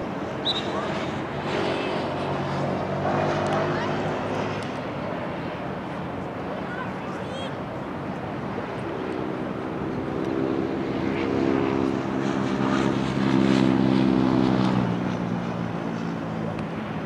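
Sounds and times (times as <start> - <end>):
passing engine drone: 0.0 - 17.0.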